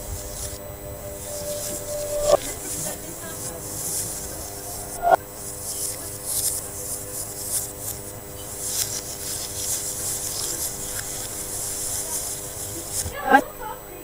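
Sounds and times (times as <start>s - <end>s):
rain hissing: 0.0s - 13.6s
steady low hum: 0.0s - 14.0s.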